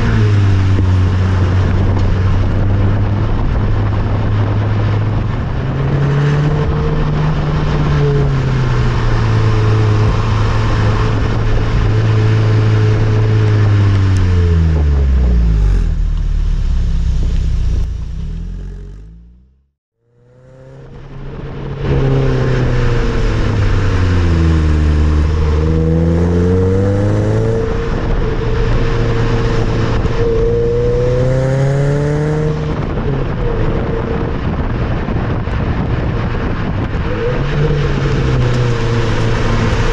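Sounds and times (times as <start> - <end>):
car exhaust note: 0.0 - 39.9.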